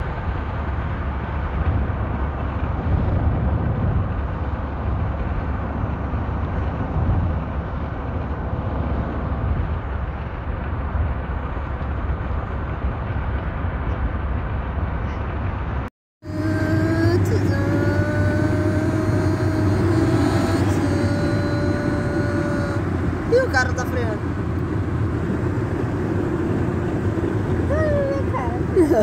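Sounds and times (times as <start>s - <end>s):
car rumbling inside cabin: 0.0s - 29.0s.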